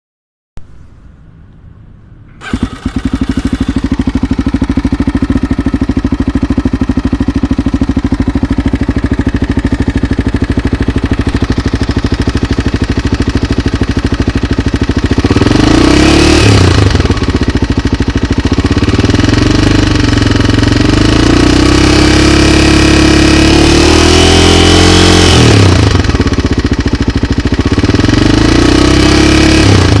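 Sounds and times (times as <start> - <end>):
motorcycle engine starting and idling: 1.1 - 30.0
motorcycle engine revving: 2.3 - 30.0.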